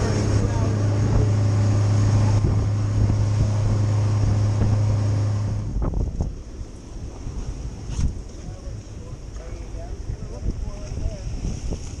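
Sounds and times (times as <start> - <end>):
motorboat engine humming: 0.0 - 12.0
wind buffeting microphone: 0.0 - 12.0.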